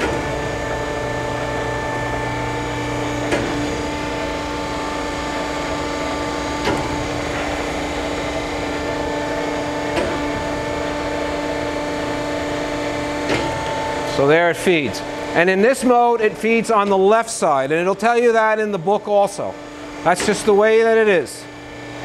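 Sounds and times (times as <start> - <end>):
grinder machine hum: 0.0 - 22.0.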